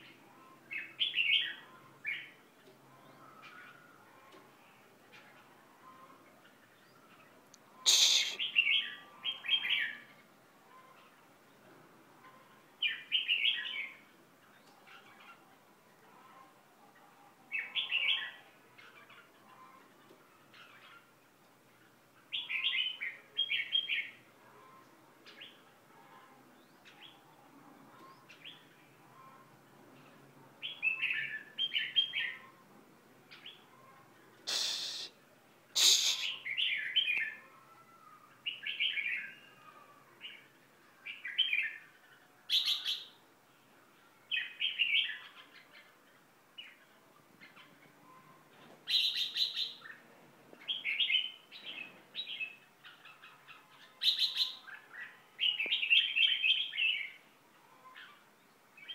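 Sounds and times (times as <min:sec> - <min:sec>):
caged songbirds chirping: 0:00.0 - 0:58.9.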